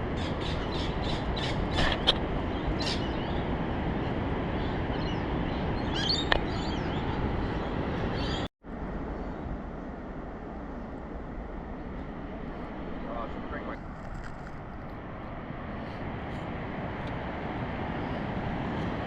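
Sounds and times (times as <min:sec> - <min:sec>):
steady outdoor rush of noise: 0:00.0 - 0:19.0.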